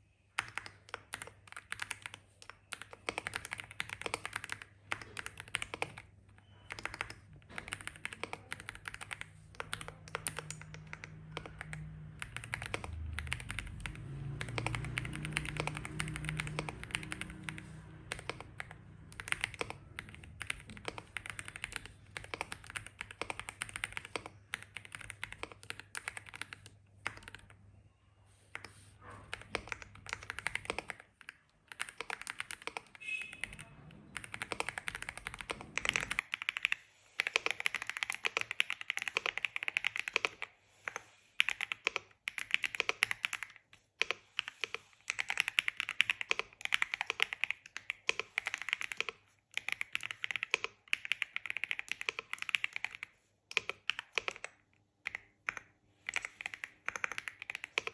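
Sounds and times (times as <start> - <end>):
mechanical keyboard typing: 0.0 - 27.6, 28.5 - 57.9.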